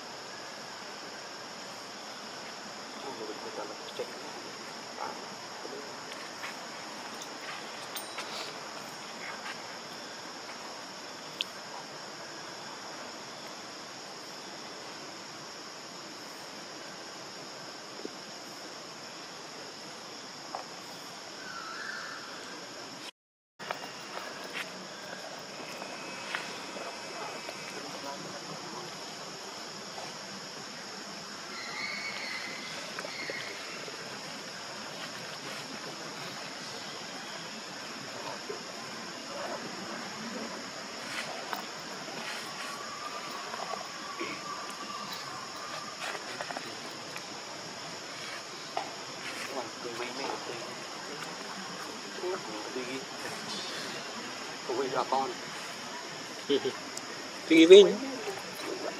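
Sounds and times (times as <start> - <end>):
insect chorus drone: 0.0 - 58.9
outdoor background noise: 0.0 - 58.9.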